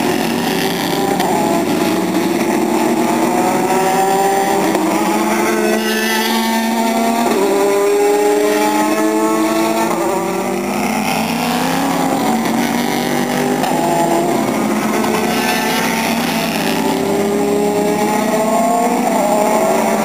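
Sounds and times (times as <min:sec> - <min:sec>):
race cars passing: 0:00.0 - 0:20.0.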